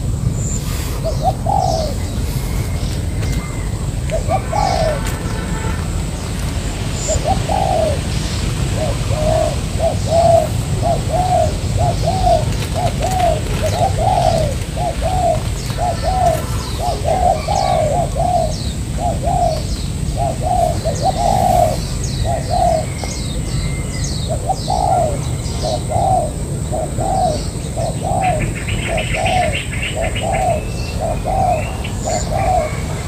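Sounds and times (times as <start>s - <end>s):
dove cooing: 0.0s - 33.0s
small birds chirping: 0.0s - 33.0s.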